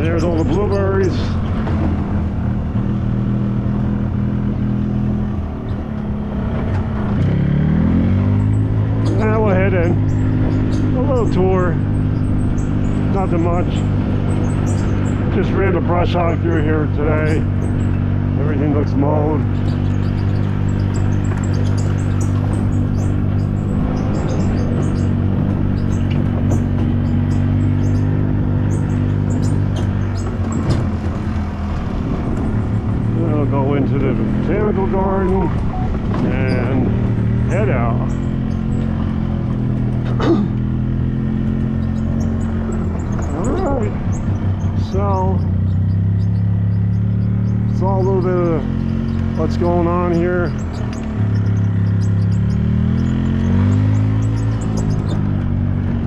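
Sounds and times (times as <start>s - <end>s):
golf cart humming: 0.0s - 56.0s
small birds chirping: 0.0s - 56.0s.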